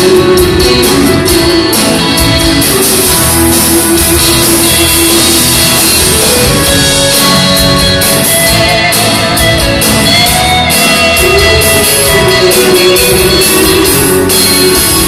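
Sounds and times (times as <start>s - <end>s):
live band with guitars: 0.0s - 15.0s.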